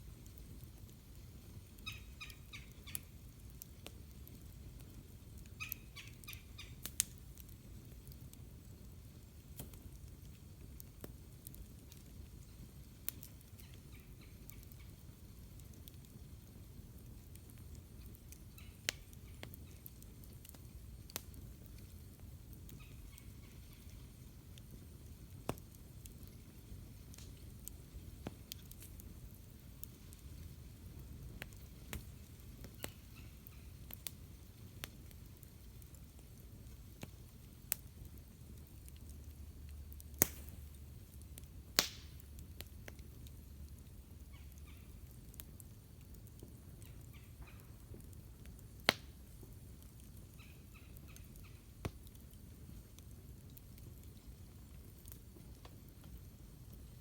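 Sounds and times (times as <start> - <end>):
campfire crackling: 0.0 - 57.0
fire popping: 0.0 - 57.0
low fire rumble: 0.0 - 57.0.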